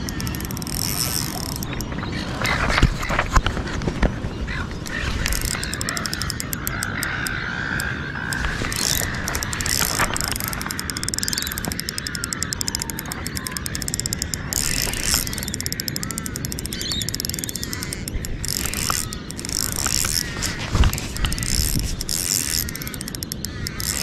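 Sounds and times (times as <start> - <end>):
fishing reel ticking: 0.0 - 3.5, 4.8 - 24.0
bird calls: 0.0 - 24.0.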